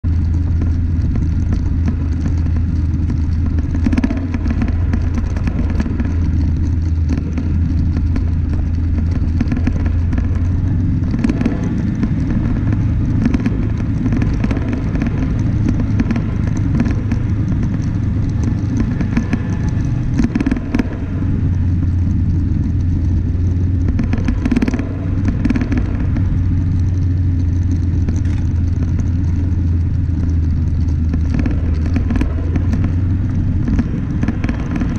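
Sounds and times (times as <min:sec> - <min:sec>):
stones clattering under wheels: 0:00.0 - 0:34.9
vehicle engine drone: 0:00.0 - 0:34.9.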